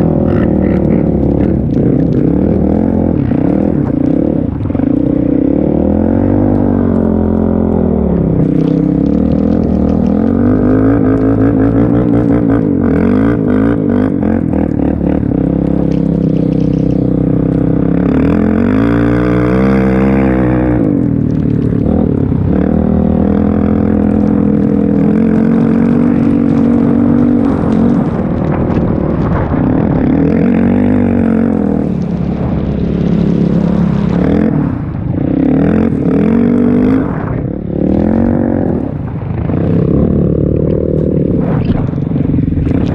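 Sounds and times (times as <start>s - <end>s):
quad engine revving: 0.0s - 32.0s, 33.0s - 42.9s.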